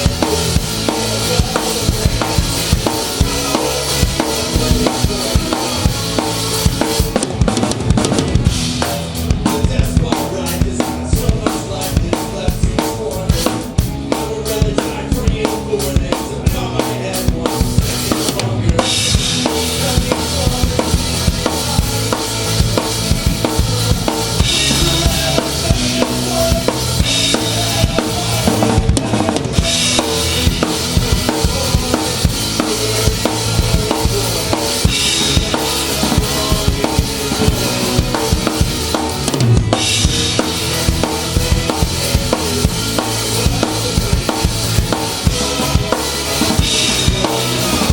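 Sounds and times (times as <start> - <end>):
bass guitar: 0.0 - 47.9
electric guitar: 0.0 - 47.9.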